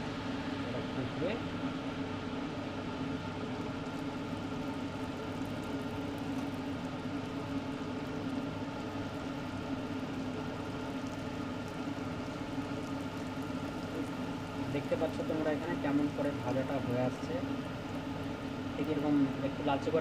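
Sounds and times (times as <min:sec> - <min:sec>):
batter sizzling in hot oil: 0:00.0 - 0:20.0
steady hum: 0:00.0 - 0:20.0.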